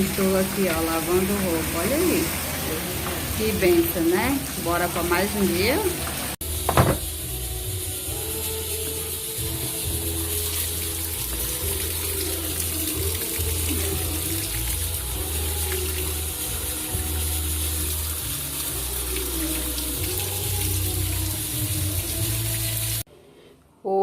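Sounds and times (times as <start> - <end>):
background music: 0.0 - 23.1
rushing water: 0.0 - 23.1.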